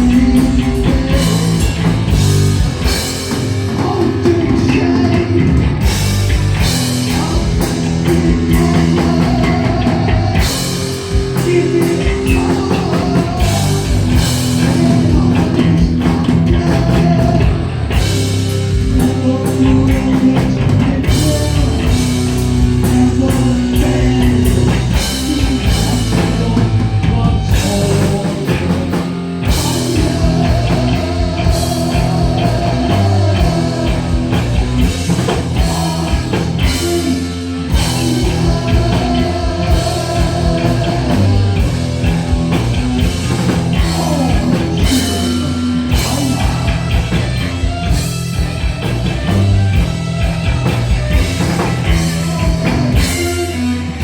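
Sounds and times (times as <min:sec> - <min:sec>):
bass guitar: 0:00.0 - 0:54.0
distorted electric guitars: 0:00.0 - 0:54.0
pounding drum kit: 0:00.0 - 0:54.0.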